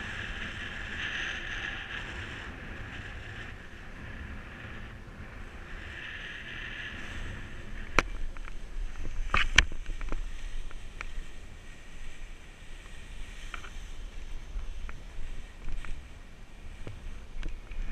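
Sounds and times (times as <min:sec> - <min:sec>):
wind rumbling on microphone: 0:00.0 - 0:17.9.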